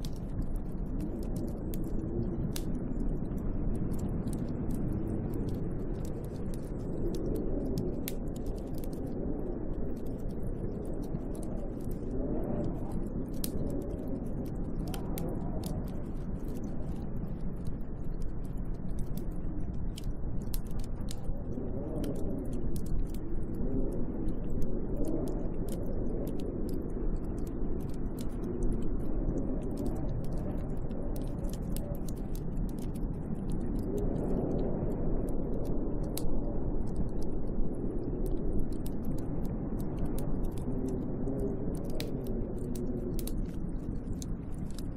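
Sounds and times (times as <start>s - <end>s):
gusting wind: 0.0s - 44.9s
light ticks: 0.0s - 44.9s.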